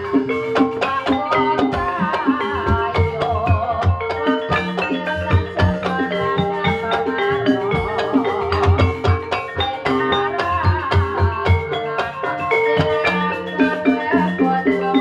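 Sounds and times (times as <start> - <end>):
mallet-struck tuned percussion melody: 0.0 - 15.0
repeating drum beat: 0.0 - 15.0.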